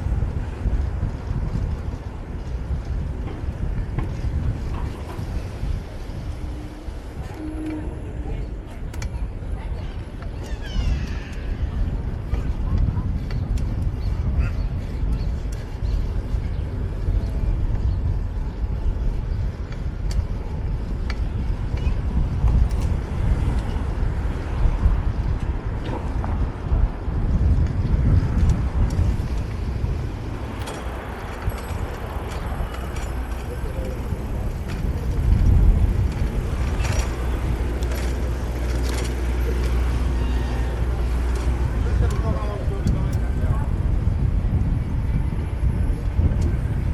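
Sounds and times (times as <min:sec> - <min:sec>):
street traffic: 0:00.0 - 0:46.9
wind rumble on microphone: 0:00.0 - 0:46.9.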